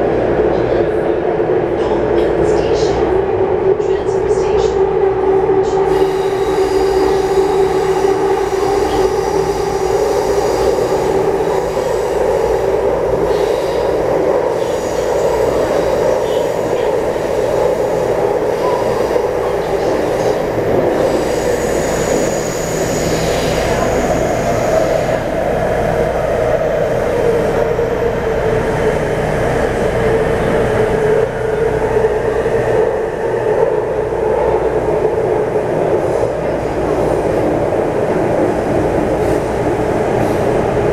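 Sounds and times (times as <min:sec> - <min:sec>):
train wheels and drive rumbling: 0:00.0 - 0:40.9.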